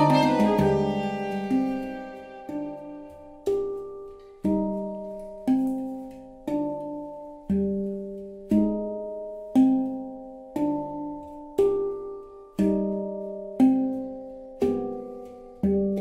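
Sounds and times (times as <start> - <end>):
handpan melody: 0.0 - 16.0.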